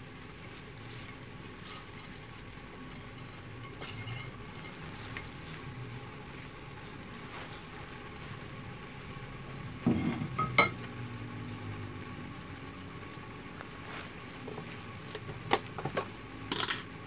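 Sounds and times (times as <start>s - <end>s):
pot sizzling: 0.0s - 17.0s.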